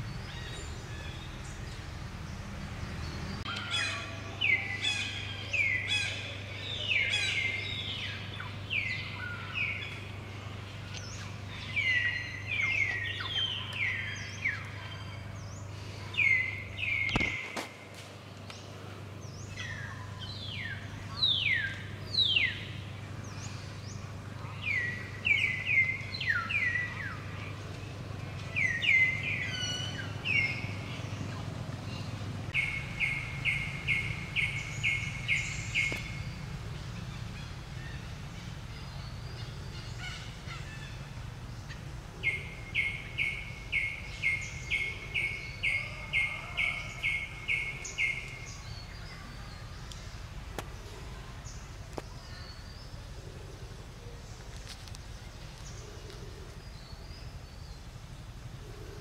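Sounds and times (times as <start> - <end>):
birds calling and singing: 0.0 - 59.0
steady low hum: 0.0 - 59.0.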